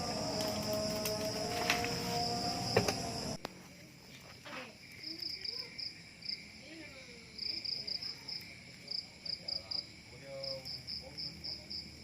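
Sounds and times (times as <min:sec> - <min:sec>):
high insect drone: 0:00.0 - 0:12.0
insects chirping: 0:00.0 - 0:12.0.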